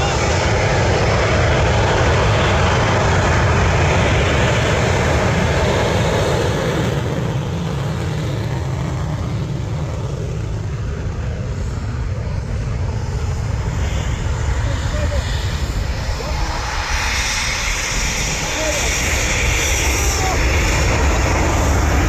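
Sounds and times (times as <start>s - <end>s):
jet taking off: 0.0s - 22.0s.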